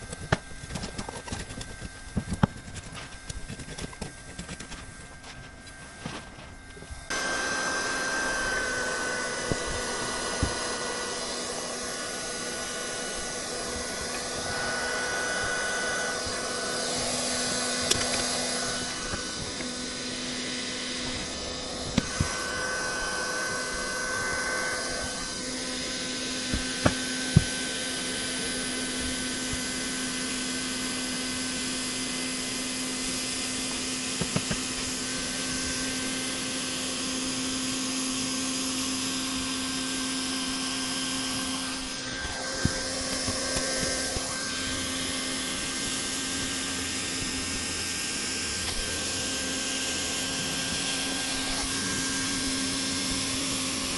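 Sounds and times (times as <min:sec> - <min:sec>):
hot-air blower hiss: 0:00.0 - 0:53.9
low motor hum: 0:00.0 - 0:53.9.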